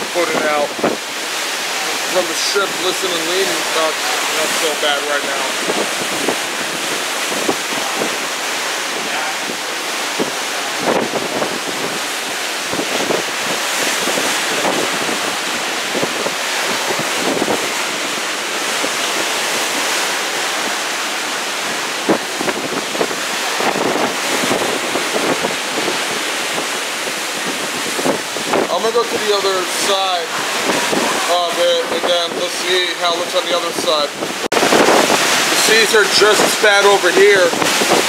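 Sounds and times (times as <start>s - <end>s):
rough sea breaking on ship hull: 0.0s - 38.0s
wind buffeting microphone: 0.0s - 38.0s.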